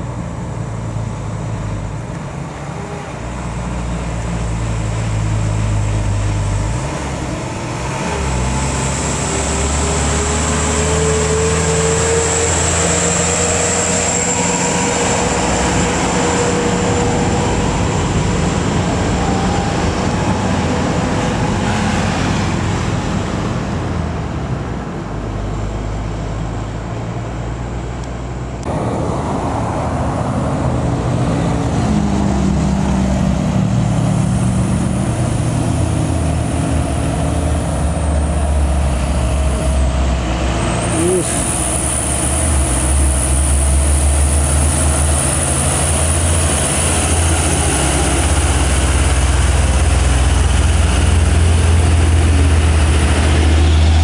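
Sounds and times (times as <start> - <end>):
truck diesel engines passing: 0.0 - 54.0
tyre and road noise: 0.0 - 54.0.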